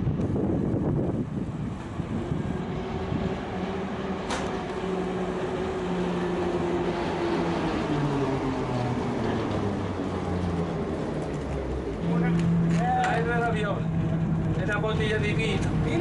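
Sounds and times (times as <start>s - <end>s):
tramcar rumbling: 0.0s - 16.0s.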